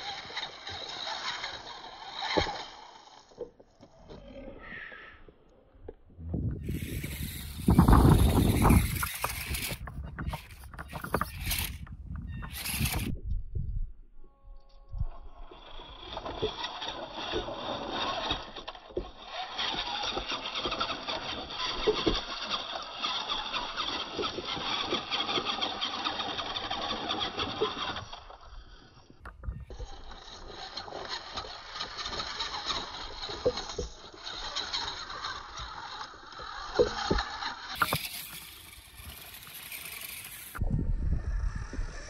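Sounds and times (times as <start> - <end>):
small electric motor whining: 0.0 - 4.8, 6.5 - 13.2, 14.3 - 42.0.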